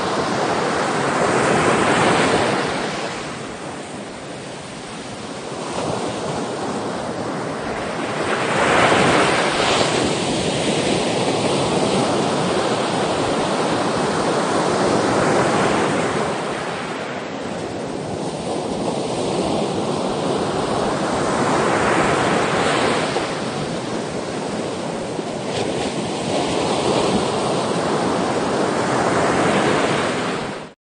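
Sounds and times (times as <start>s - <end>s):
sea waves breaking: 0.0s - 30.7s.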